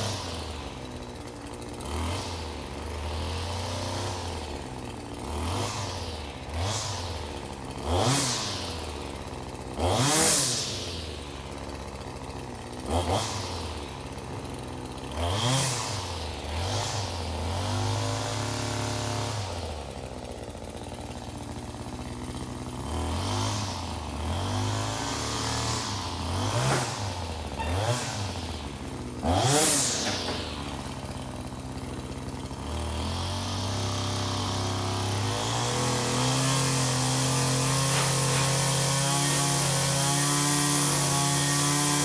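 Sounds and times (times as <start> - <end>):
small engine revving and idling: 0.0 - 42.0.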